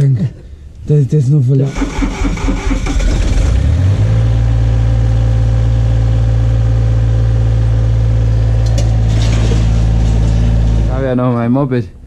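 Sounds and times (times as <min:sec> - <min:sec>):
engine idling: 0:01.7 - 0:12.0.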